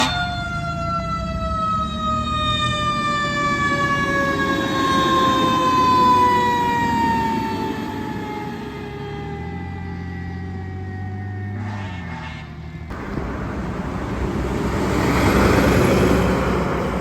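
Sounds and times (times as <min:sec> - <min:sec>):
fire truck siren: 0:00.0 - 0:17.0
truck engine rumble: 0:00.0 - 0:17.0.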